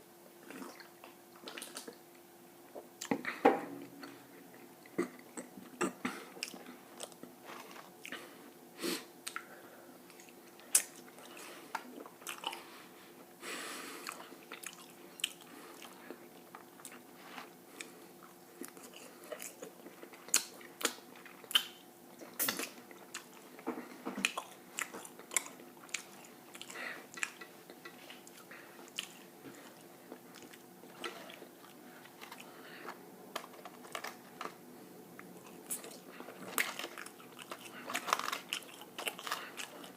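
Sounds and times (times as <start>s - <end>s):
person chewing food: 0.4s - 2.0s, 2.7s - 8.6s, 9.2s - 39.9s.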